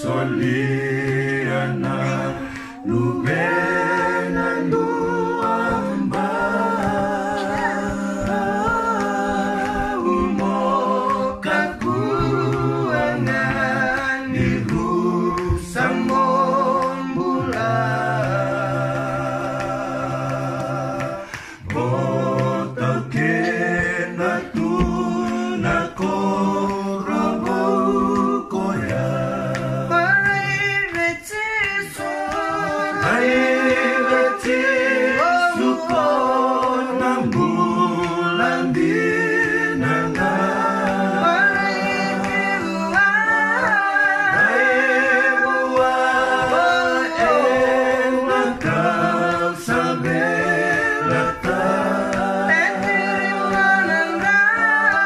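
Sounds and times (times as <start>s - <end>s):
a cappella group singing: 0.0s - 55.0s.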